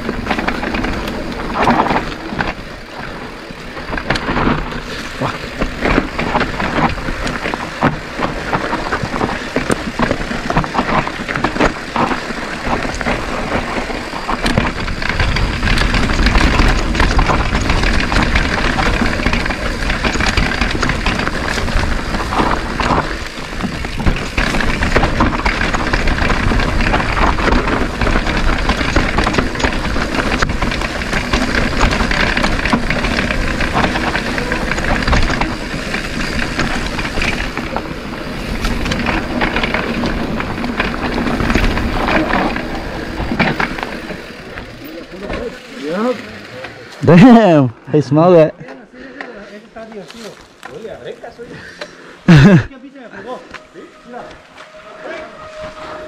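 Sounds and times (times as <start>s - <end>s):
wind rushing over microphone: 0.0s - 44.9s
bike rattling and knocking: 0.0s - 56.0s
bike tyre noise: 0.0s - 56.0s.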